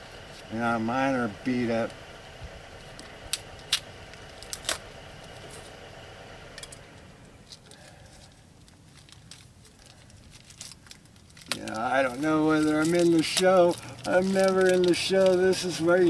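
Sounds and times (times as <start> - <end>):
faint background hum: 0.0 - 16.0.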